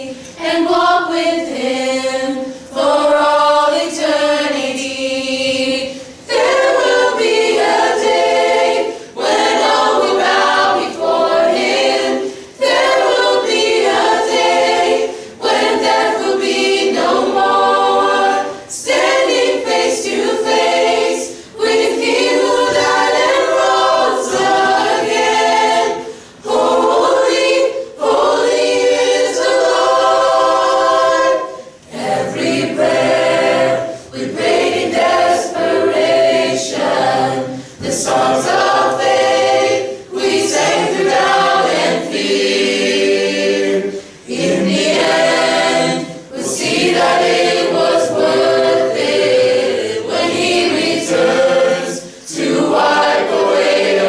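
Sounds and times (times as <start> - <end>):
choir singing a cappella: 0.0 - 54.0.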